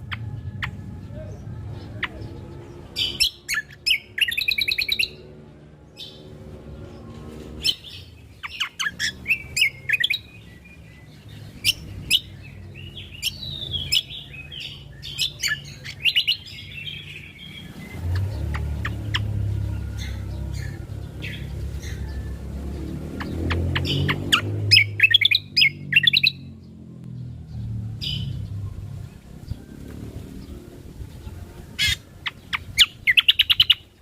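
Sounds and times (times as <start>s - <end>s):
bird singing chirps and trills: 0.0s - 34.0s.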